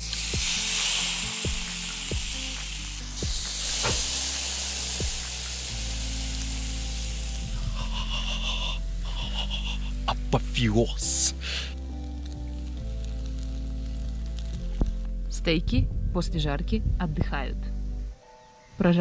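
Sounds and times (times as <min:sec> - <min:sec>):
steaks sizzling on grill: 0:00.0 - 0:15.2
music with steady bass beat: 0:00.0 - 0:18.2.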